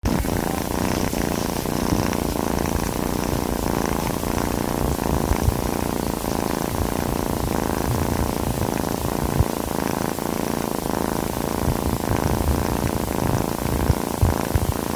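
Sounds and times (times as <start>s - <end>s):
cat purring: 0.0s - 14.9s.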